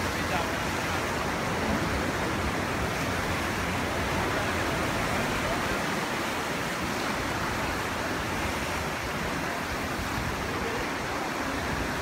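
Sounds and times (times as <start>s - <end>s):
ocean surf breaking on rocks: 0.0s - 12.0s.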